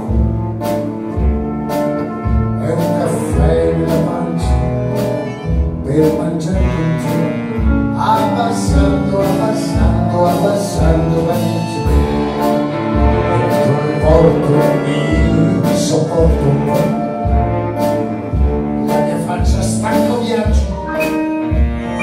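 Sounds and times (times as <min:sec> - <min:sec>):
man singing: 0:00.0 - 0:00.6, 0:02.5 - 0:17.4, 0:18.8 - 0:22.0
acoustic guitar: 0:00.0 - 0:22.0
bass line: 0:00.0 - 0:22.0.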